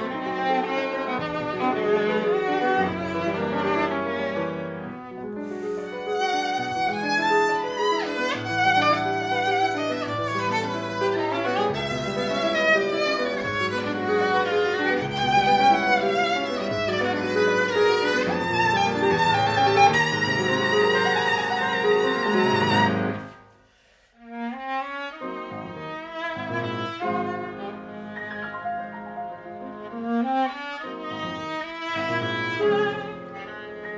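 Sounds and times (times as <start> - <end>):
viola and piano chamber music: 0.0 - 23.4, 24.2 - 33.9.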